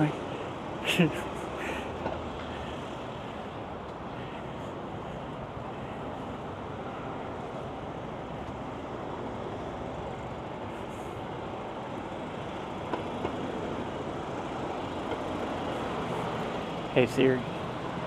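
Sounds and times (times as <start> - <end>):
passing vehicles rumble: 0.0 - 18.0.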